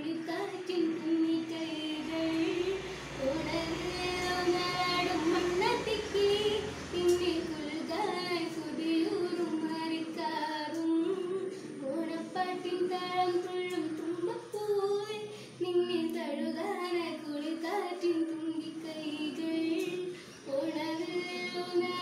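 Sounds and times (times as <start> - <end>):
young female voice singing: 0.0 - 22.0.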